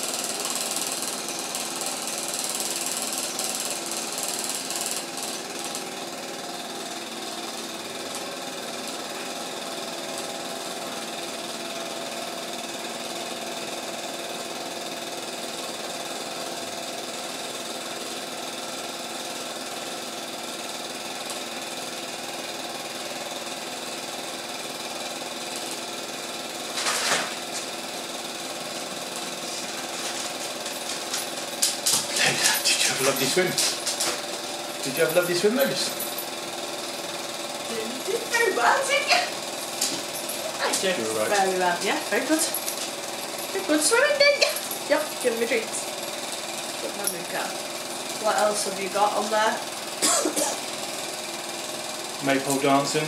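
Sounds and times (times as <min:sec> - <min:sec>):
film projector whirring: 0:00.0 - 0:53.0.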